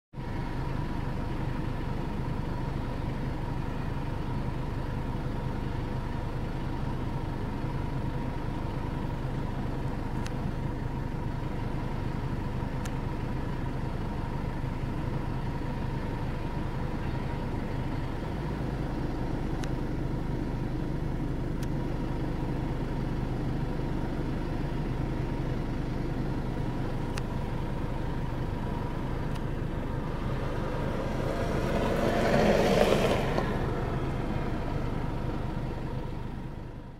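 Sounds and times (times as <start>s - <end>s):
engine idling: 0.1s - 36.9s.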